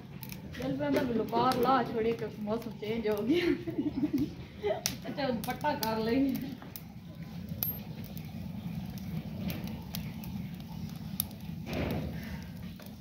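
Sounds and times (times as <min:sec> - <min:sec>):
low steady fire rumble: 0:00.0 - 0:13.0
twig fire crackling and popping: 0:00.0 - 0:13.0.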